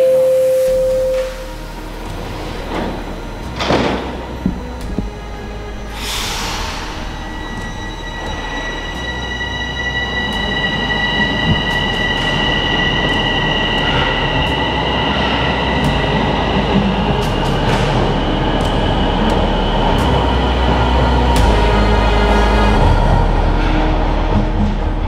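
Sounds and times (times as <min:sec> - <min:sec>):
subway train whine: 0:00.0 - 0:25.0
rumbling wheel noise: 0:00.7 - 0:25.0.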